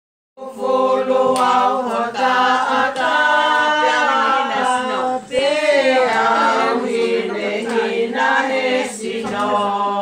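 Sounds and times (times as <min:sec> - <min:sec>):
voices singing a cappella: 0:00.4 - 0:10.0.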